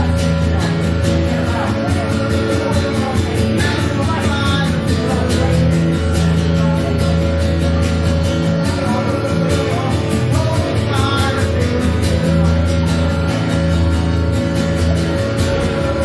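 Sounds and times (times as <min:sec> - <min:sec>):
electric bass: 0:00.0 - 0:16.0
guitar: 0:00.0 - 0:16.0.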